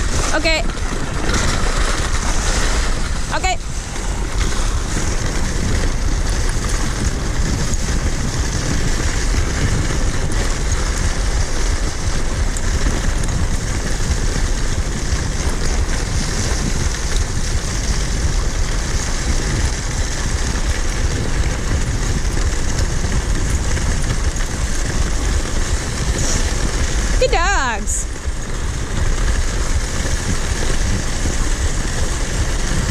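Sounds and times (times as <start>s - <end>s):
sled runners hissing over snow: 0.0s - 32.9s
wind buffeting microphone: 0.0s - 32.9s.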